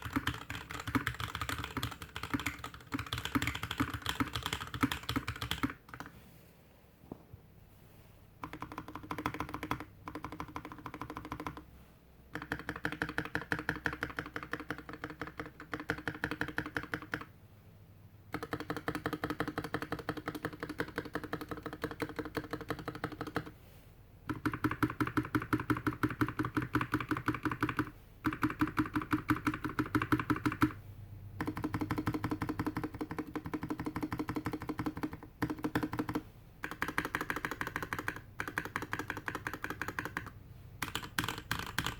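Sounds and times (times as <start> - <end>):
mechanical keyboard typing: 0.0 - 6.1, 8.4 - 11.7, 12.3 - 17.3, 18.3 - 23.5, 24.3 - 30.8, 31.4 - 41.9.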